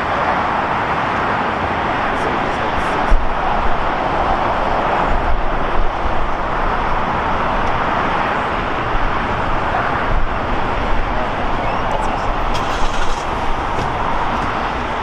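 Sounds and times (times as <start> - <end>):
airport and road traffic roar: 0.0 - 15.0.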